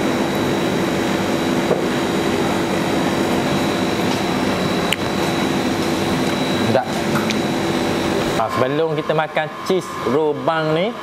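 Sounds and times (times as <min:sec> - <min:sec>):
cooling equipment drone: 0:00.0 - 0:11.0
thin high whine: 0:00.0 - 0:11.0.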